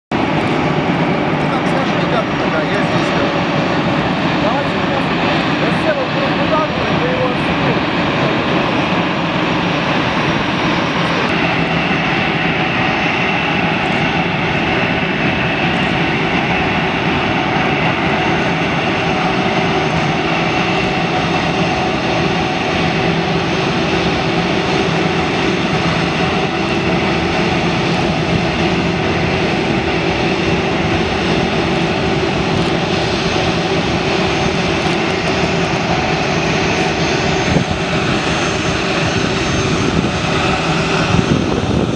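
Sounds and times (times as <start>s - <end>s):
jet engines roaring and whining: 0.1s - 41.9s.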